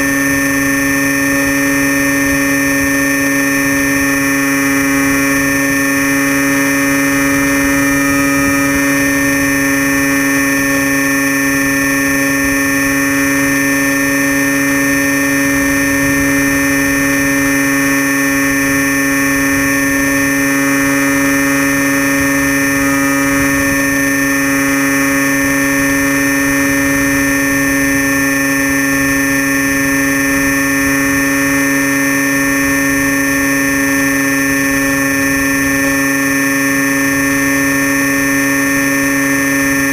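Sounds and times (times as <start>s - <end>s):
electric motor and propeller hum: 0.0s - 39.9s.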